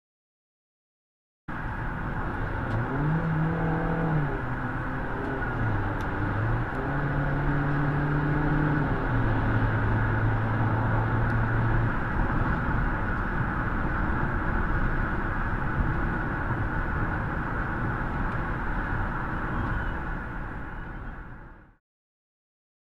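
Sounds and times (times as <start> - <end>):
tyre and road noise: 1.5 - 21.7
low engine hum: 1.5 - 21.8.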